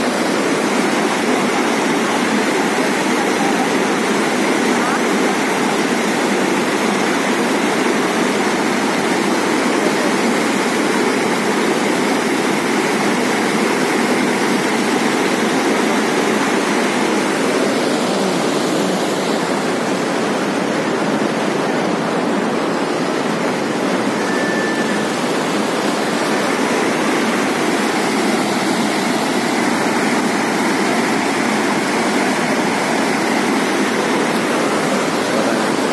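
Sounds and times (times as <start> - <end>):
river rapids rushing: 0.0 - 35.9.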